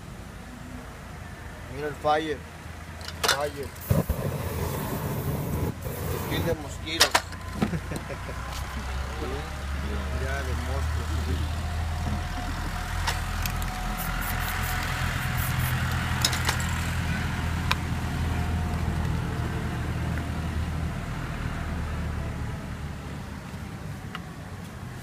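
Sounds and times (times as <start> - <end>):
vehicle engine rumbling: 1.8 - 25.0.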